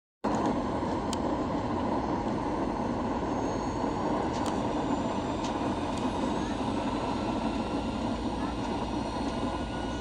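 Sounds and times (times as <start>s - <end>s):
jet engines and rushing air: 0.2s - 10.0s.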